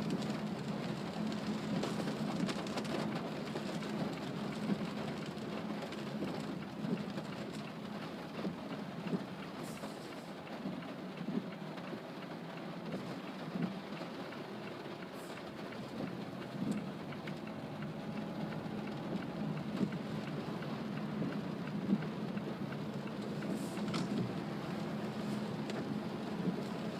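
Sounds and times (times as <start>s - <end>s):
car running on wet road: 0.0s - 26.9s
heavy rain on a car: 0.0s - 26.9s.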